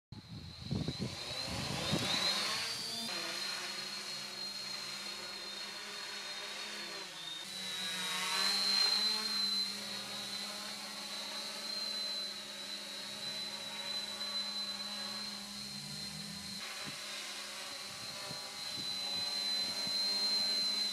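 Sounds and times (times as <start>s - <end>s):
drone propellers whining: 0.2s - 20.9s.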